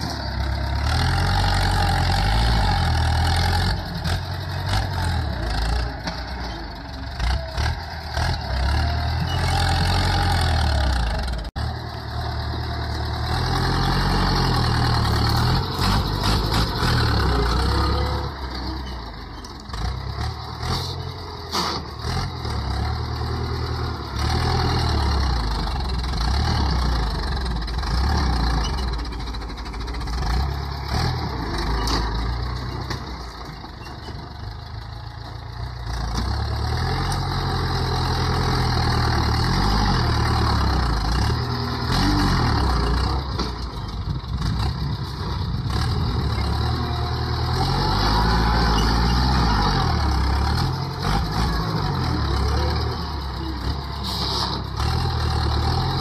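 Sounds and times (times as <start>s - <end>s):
dozer blade pushing soil: 0.0s - 34.2s, 36.1s - 56.0s
tractor diesel engine under load: 0.0s - 56.0s.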